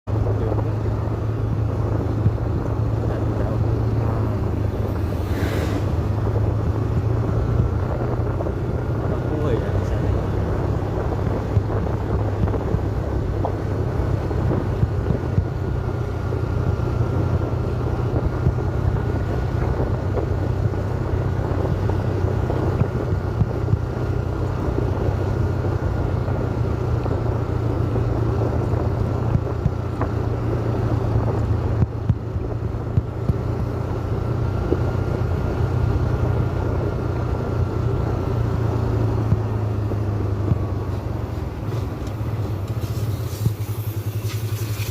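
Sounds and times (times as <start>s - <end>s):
vehicle engine running: 0.0s - 44.9s
wind buffeting microphone: 0.1s - 44.9s.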